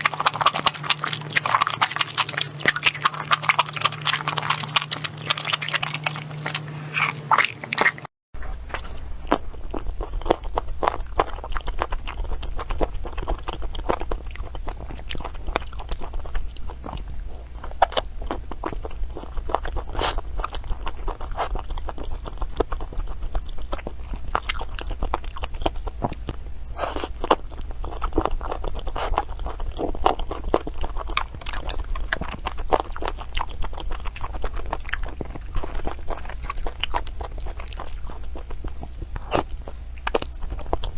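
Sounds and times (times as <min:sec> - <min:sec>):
crunchy chewing of food: 0:00.0 - 0:40.9.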